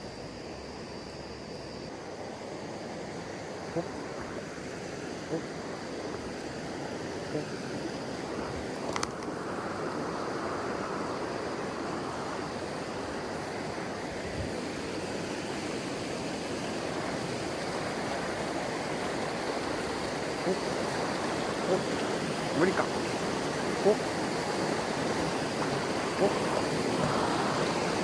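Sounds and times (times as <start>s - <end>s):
river water rushing: 1.4s - 28.0s.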